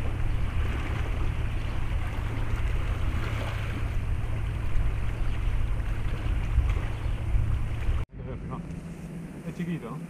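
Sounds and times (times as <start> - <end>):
wind on microphone: 0.0 - 9.0
river rumble: 0.0 - 10.0.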